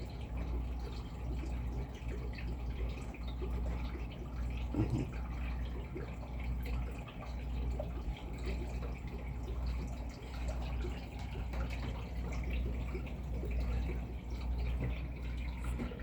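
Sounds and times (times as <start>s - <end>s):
steady low hum: 0.0s - 16.0s
water trickling and dripping: 0.0s - 16.0s.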